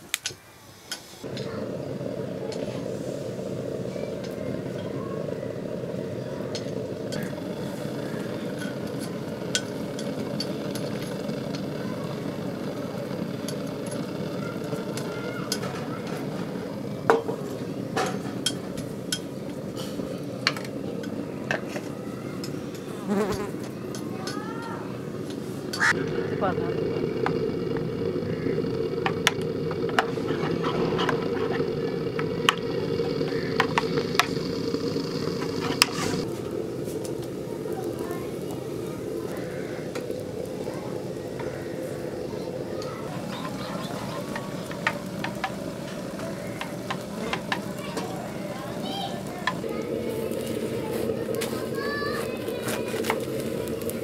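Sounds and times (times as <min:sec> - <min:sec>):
gas stove burner rushing: 0:00.0 - 0:54.0
low rumble: 0:01.2 - 0:22.0, 0:25.2 - 0:54.0.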